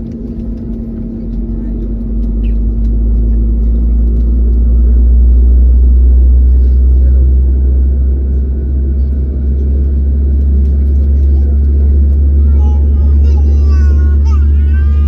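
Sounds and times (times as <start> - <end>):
aircraft cabin engine hum: 0.0 - 15.0.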